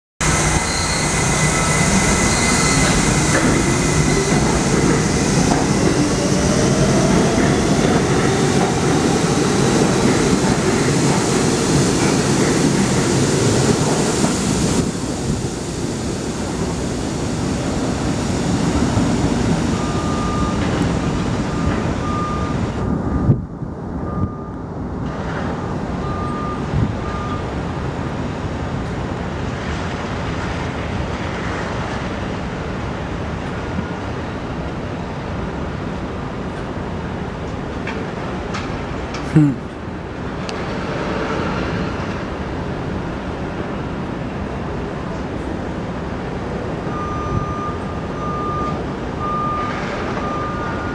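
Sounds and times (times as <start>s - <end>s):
subway traction motors whining: 0.2s - 50.9s
train wheels on rails: 0.2s - 50.9s.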